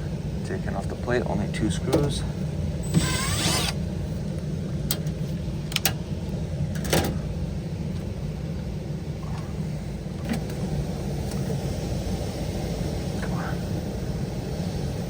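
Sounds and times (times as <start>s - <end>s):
hvac unit humming: 0.0s - 15.0s.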